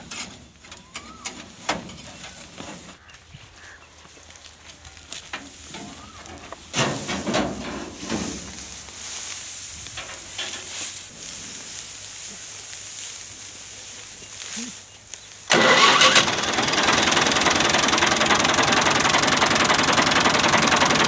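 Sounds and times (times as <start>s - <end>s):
dry straw rustling: 0.0s - 17.8s.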